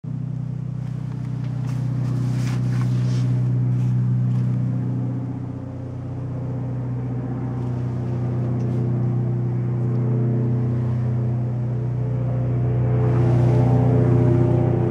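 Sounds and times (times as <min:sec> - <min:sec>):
helicopter engine and rotor drone: 0:00.1 - 0:14.9.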